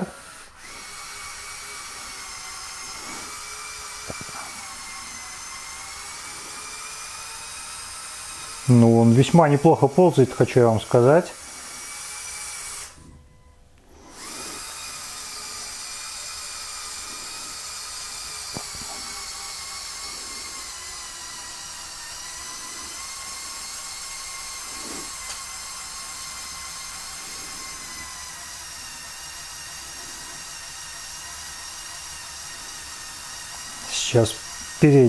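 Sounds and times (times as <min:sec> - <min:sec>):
electric motors whining: 0:00.0 - 0:35.0.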